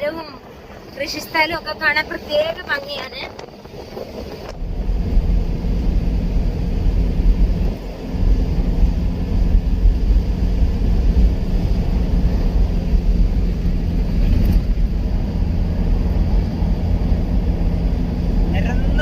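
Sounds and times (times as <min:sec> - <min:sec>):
car engine: 0:00.0 - 0:19.0
road rumble: 0:00.0 - 0:19.0.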